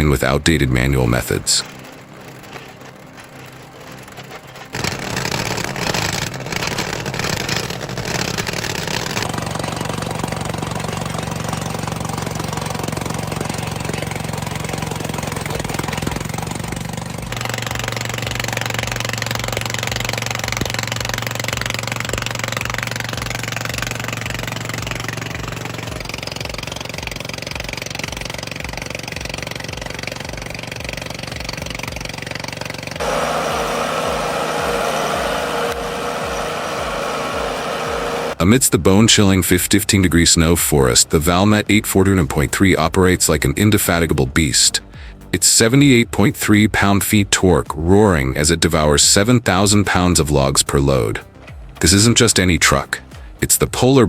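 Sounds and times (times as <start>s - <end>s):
heavy machinery engine running: 0.0s - 54.0s
low pulsing: 0.0s - 54.0s.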